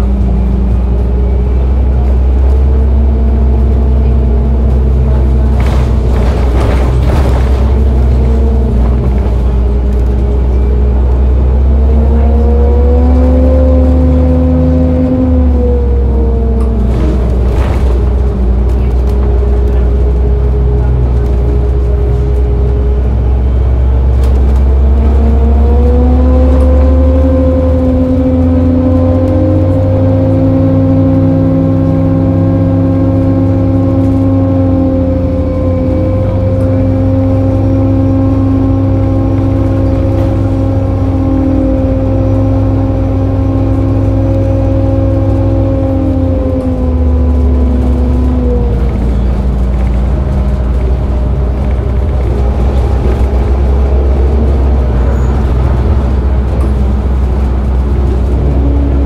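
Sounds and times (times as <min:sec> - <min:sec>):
bus engine rumble: 0:00.0 - 0:59.0
bus whining tones: 0:00.0 - 0:59.0.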